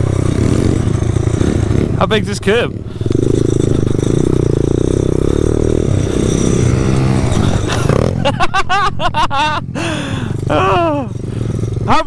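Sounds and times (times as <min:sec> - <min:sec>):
pit bike engine running: 0:00.0 - 0:12.0.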